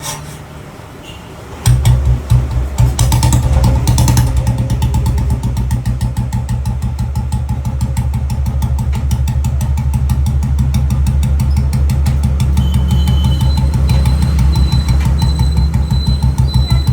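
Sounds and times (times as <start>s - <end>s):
motorcycle engine idling: 1.6s - 16.9s.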